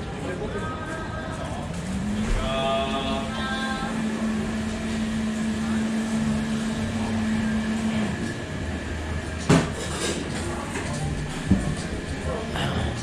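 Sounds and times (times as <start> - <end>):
constant background noise: 0.0 - 13.0.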